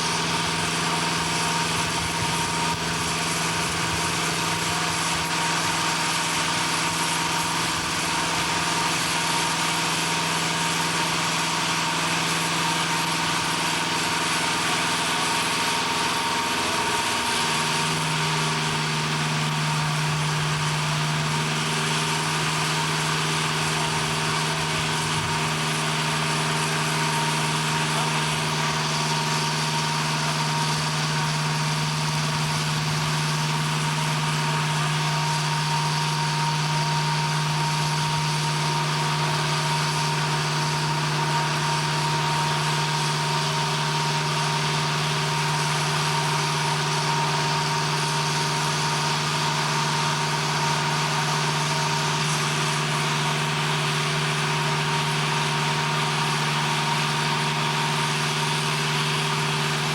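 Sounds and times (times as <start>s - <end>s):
heavy machinery droning: 0.0s - 59.9s.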